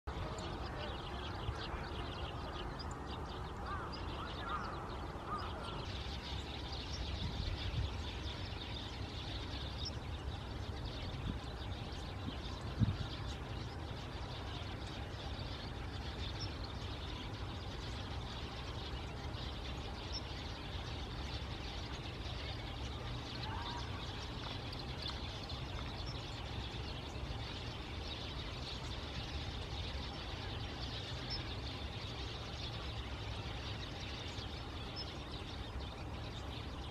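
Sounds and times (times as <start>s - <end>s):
sparrows chirping: 0.0s - 36.9s
low steady rumble: 0.1s - 36.9s.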